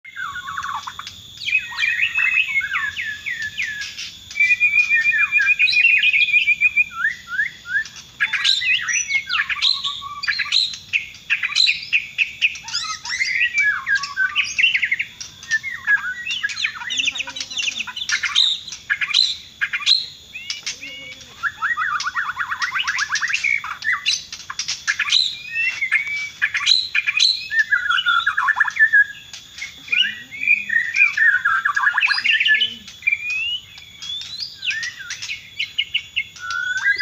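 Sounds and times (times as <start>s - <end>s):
songbird whistled song: 0.0s - 37.0s.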